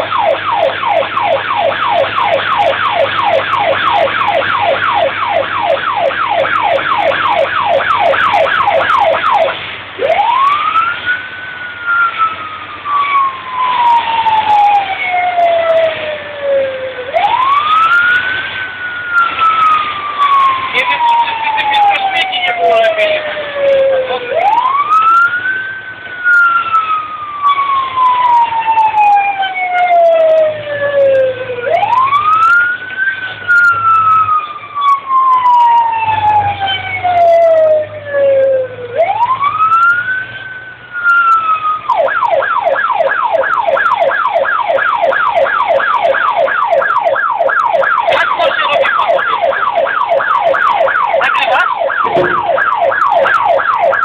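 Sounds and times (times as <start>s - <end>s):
electronic siren wailing and yelping: 0.0s - 54.0s.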